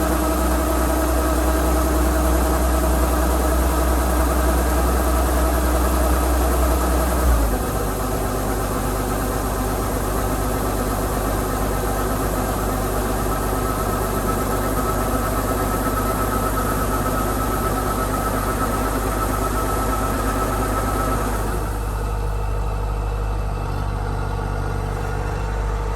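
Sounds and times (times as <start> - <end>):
combine harvester diesel engine: 0.0 - 25.9.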